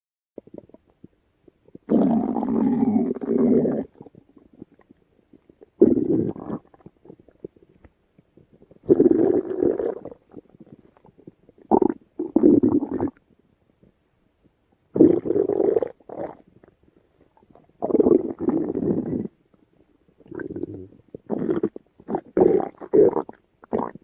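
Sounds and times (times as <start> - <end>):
stomach rumbling: 0.4 - 24.0.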